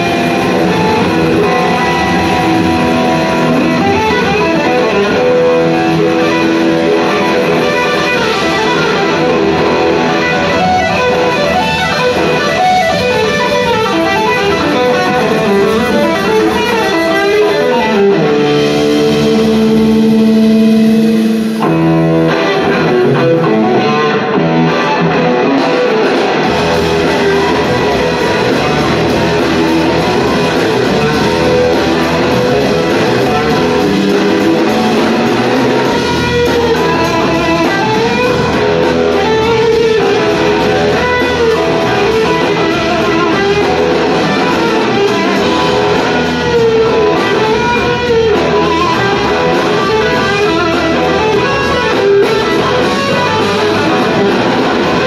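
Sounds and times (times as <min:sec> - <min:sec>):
electric slide guitar lead: 0:00.0 - 0:55.0
live blues rock band: 0:00.0 - 0:55.0.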